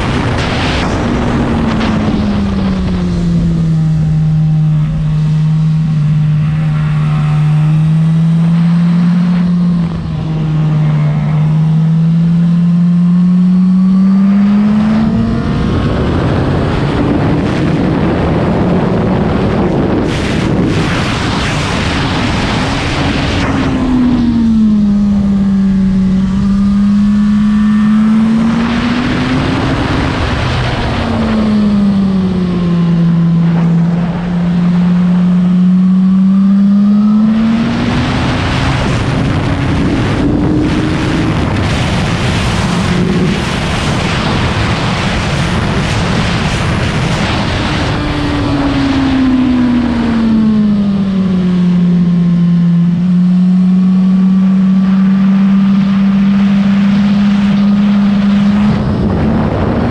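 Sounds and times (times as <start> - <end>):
wind rush over microphone: 0.0 - 12.2, 13.9 - 53.1, 53.7 - 59.9
motorcycle engine revving: 0.0 - 59.9.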